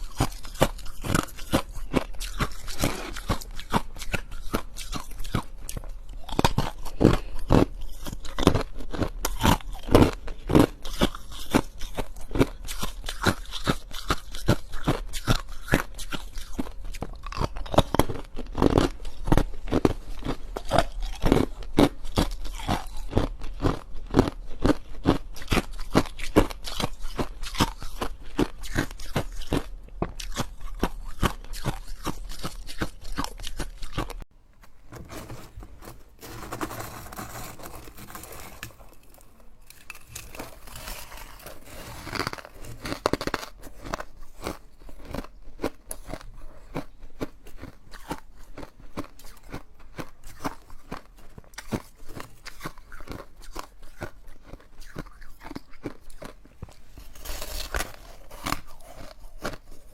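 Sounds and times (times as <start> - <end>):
ice being chewed: 0.0 - 34.3, 35.0 - 59.9.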